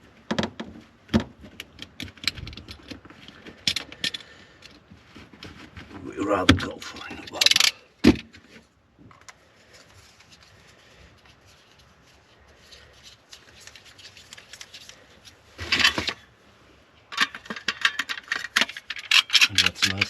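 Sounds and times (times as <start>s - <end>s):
rustling and scraping: 0.0s - 20.0s.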